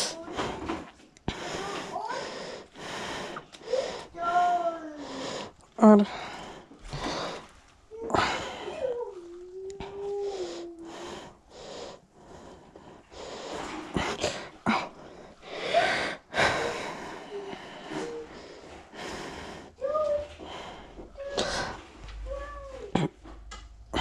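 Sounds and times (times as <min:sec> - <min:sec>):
person breathing heavily: 0:00.0 - 0:04.3, 0:04.9 - 0:08.9, 0:09.8 - 0:22.0.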